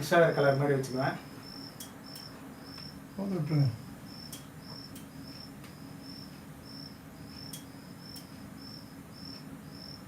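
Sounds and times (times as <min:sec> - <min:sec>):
cricket chirping: 0:00.0 - 0:10.0
low steady hum: 0:00.0 - 0:10.0.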